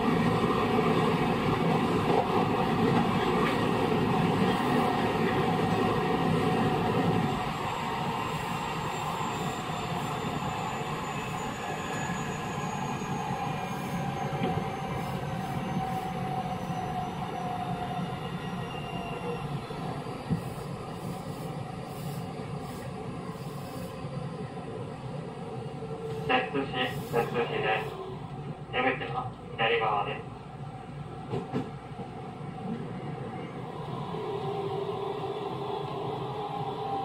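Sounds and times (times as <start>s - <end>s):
train wheels on rails: 0.0s - 24.6s, 25.6s - 29.5s, 31.1s - 37.0s.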